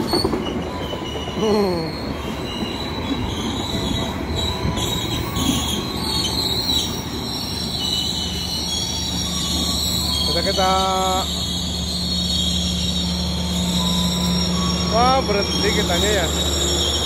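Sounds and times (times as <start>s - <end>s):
train wheels rumbling on rails: 0.0s - 17.0s
wheel squeal: 0.0s - 17.0s.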